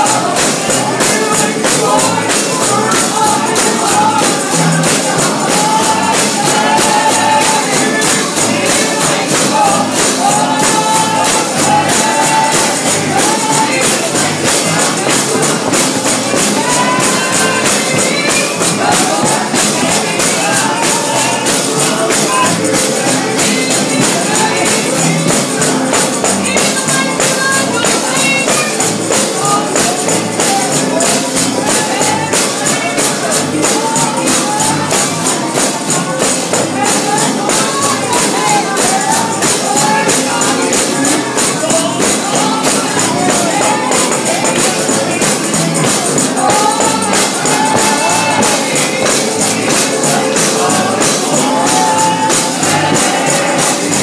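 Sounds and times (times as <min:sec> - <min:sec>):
people singing: 0:00.0 - 0:54.0
tambourine jingling: 0:00.0 - 0:54.0.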